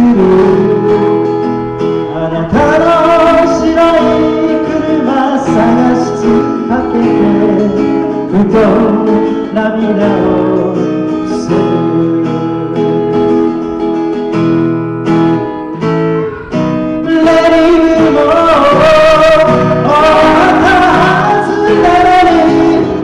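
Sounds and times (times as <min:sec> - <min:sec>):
person singing: 0:00.0 - 0:13.6, 0:16.3 - 0:23.0
acoustic guitar strumming: 0:00.0 - 0:23.0.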